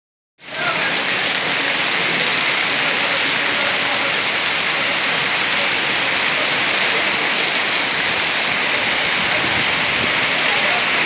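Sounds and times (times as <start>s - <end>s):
heavy rain on pavement: 0.4s - 11.0s.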